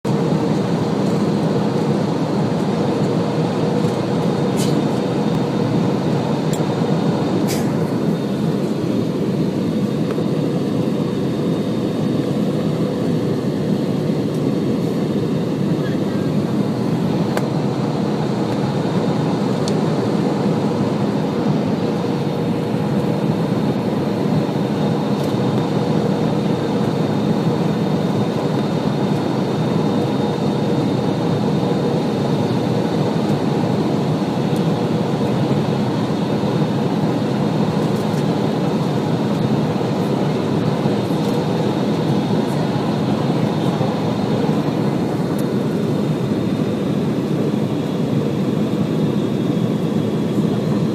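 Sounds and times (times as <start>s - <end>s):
jet engines rumbling: 0.1s - 50.9s
steady high whine: 0.1s - 50.9s.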